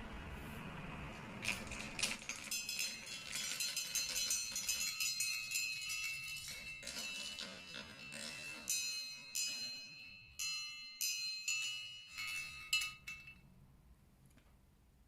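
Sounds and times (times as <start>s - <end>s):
marbles striking metal chimes: 1.4s - 13.5s.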